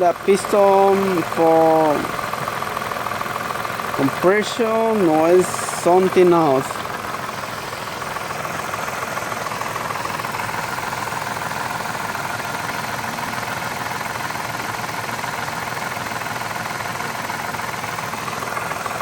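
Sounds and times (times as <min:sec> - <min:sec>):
car engine idling: 0:00.0 - 0:19.0
fast knocking from engine: 0:00.0 - 0:19.0.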